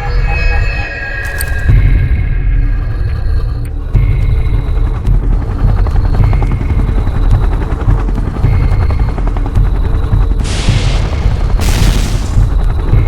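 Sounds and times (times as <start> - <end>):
helicopter rotor chopping: 2.3 - 13.0.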